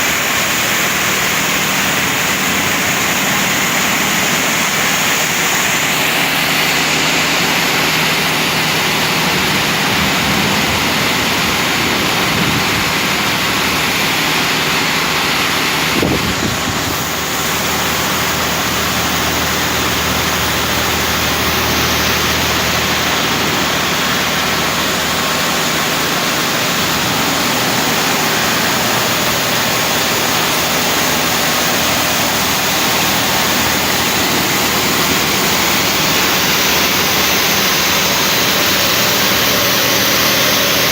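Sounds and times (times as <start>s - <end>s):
low motor hum: 0.0s - 40.9s
vehicle wash machine spraying: 0.0s - 40.9s.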